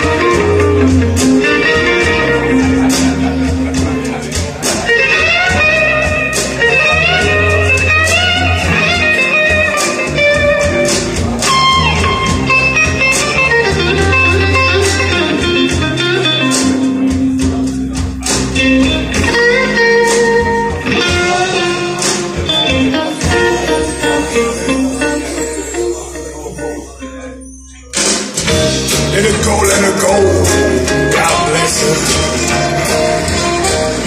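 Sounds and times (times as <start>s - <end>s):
instrumental blues music: 0.0s - 34.0s.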